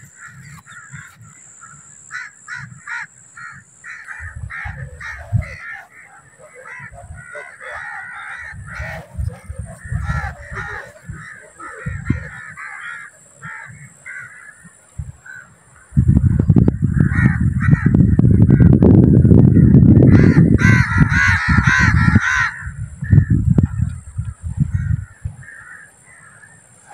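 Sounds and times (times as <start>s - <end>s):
crows cawing: 0.0s - 16.1s, 16.7s - 26.9s.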